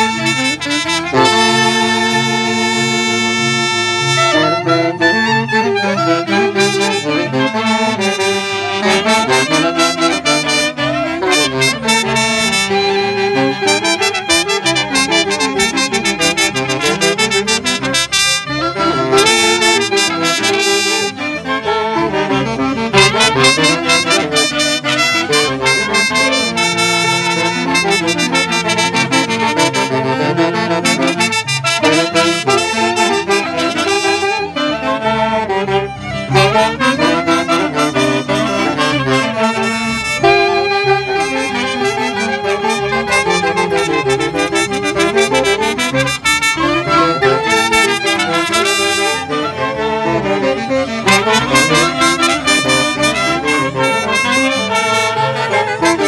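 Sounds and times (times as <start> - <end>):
clarinet: 0.0 - 56.0
saxophones: 0.0 - 56.0
trumpet: 0.0 - 56.0
violins: 0.0 - 56.0.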